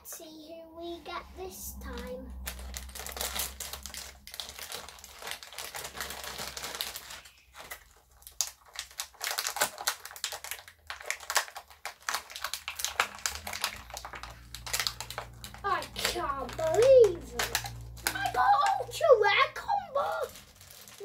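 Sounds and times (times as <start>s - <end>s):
plastic packaging crinkling: 1.8s - 21.0s.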